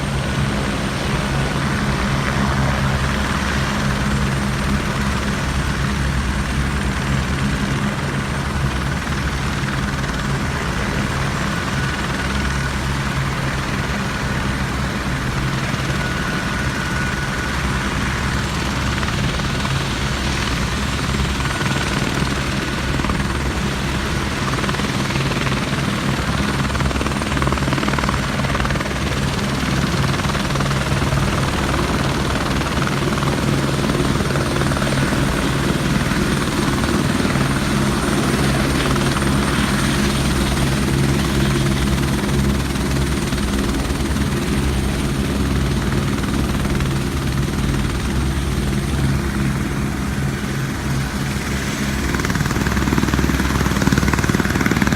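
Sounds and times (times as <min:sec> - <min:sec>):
helicopter rotor throb: 0:00.0 - 0:54.9.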